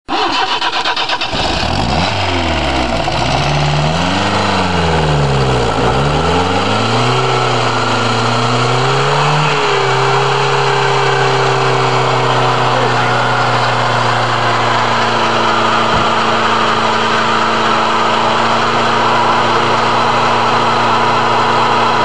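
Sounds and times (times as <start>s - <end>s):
car engine revving: 0.1s - 22.0s.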